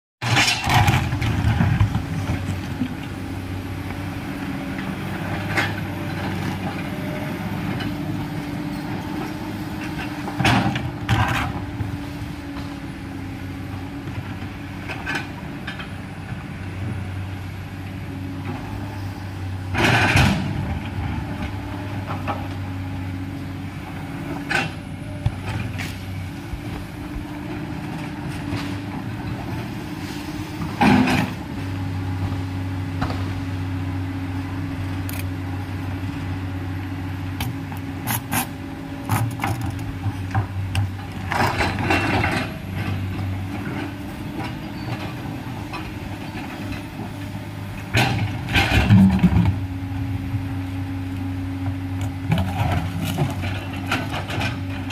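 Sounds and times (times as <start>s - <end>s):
excavator diesel engine running: 0.3s - 54.9s.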